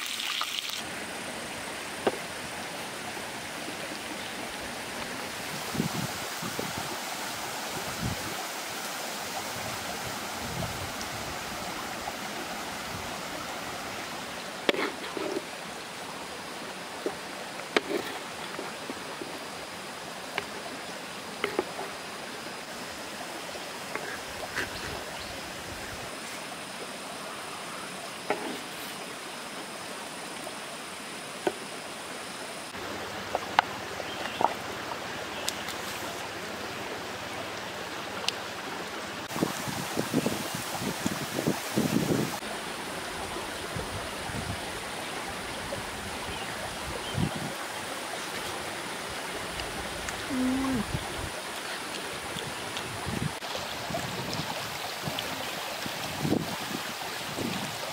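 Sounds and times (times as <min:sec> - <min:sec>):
small stream running: 0:00.0 - 0:57.9.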